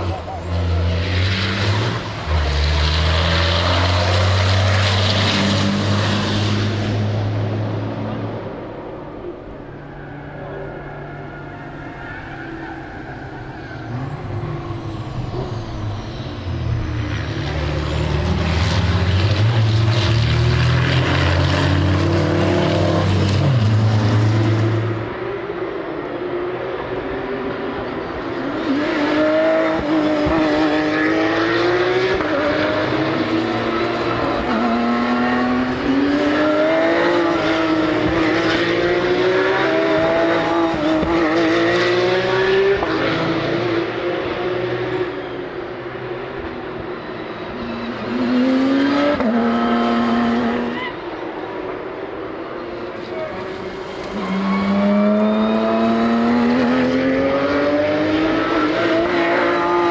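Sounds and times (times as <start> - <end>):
racing truck diesel engines revving: 0.0 - 59.9.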